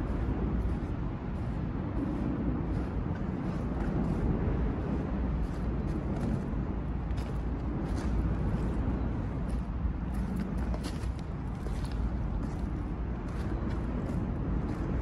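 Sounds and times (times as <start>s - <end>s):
footsteps on stones and mud: 0.0s - 15.0s
road traffic rumble: 0.0s - 15.0s.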